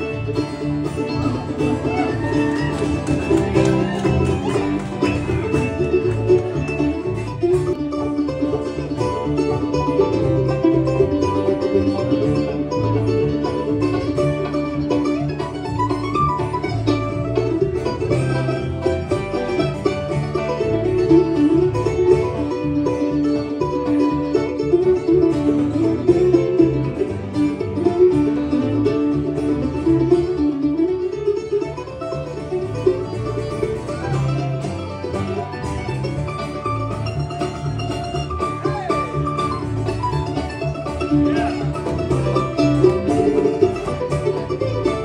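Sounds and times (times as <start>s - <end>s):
country band instrumental: 0.0s - 45.0s.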